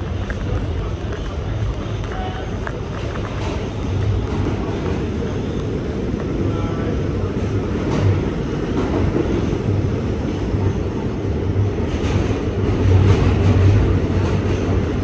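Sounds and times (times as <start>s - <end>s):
subway train rumble: 0.0s - 15.0s.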